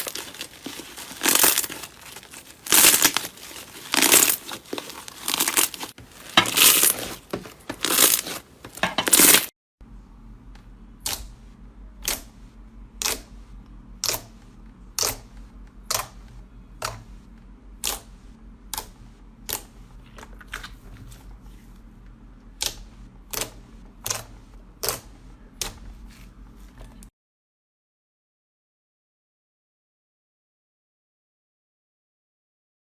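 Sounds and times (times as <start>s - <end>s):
low steady hum: 0.0s - 27.1s.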